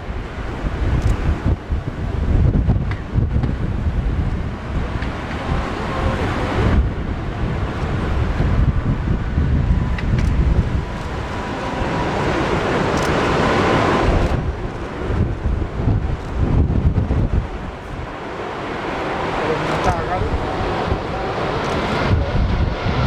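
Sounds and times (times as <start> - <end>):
jet engine whine and rush: 0.0 - 23.0
wind buffeting microphone: 0.0 - 23.0.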